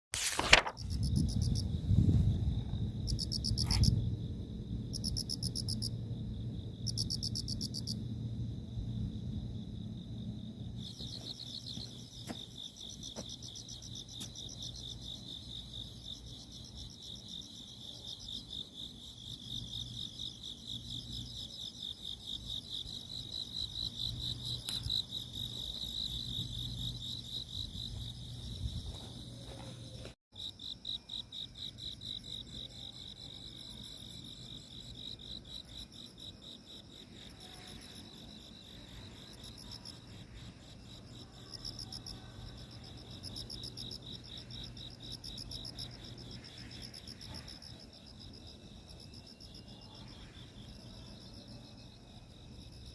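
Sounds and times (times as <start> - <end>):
crickets chirping: 0.6 - 52.9.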